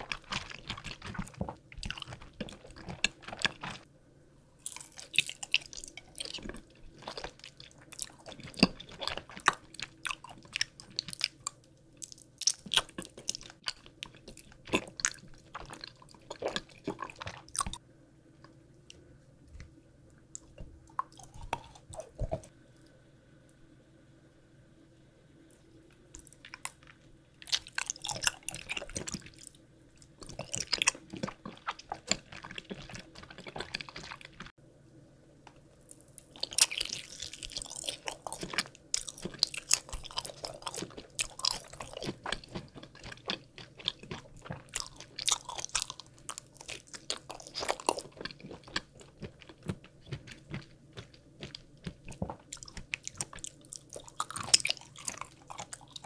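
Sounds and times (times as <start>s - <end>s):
chewing jelly candies: 0.0s - 3.9s, 4.6s - 17.8s, 18.9s - 22.9s, 25.5s - 34.6s, 35.8s - 56.0s.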